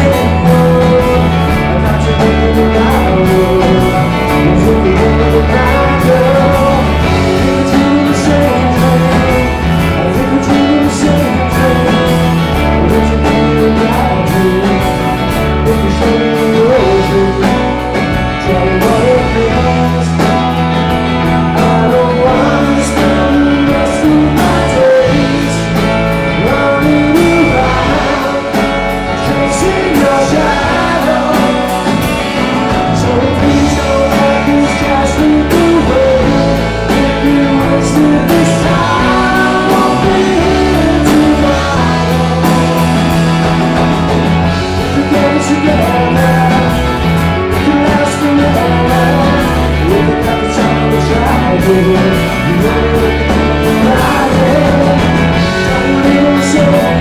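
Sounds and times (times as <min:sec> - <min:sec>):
bass guitar: 0:00.0 - 0:57.0
drums: 0:00.0 - 0:57.0
electric guitars: 0:00.0 - 0:57.0
man singing: 0:00.0 - 0:57.0.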